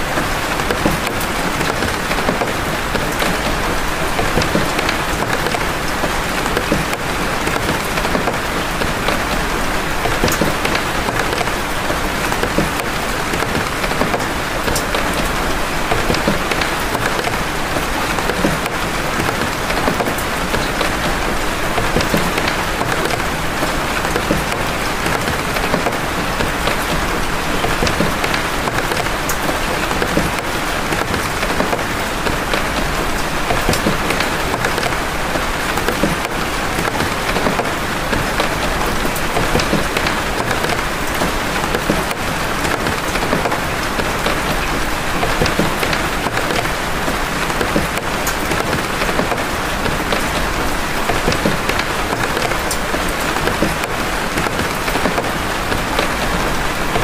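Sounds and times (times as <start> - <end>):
heavy rain hissing: 0.0 - 57.0
raindrop impacts: 0.0 - 57.0.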